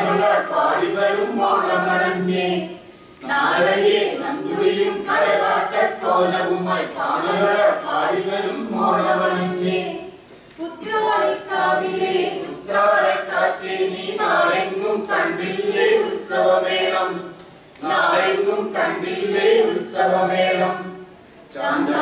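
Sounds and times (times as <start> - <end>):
group singing without instruments: 0.0 - 22.0.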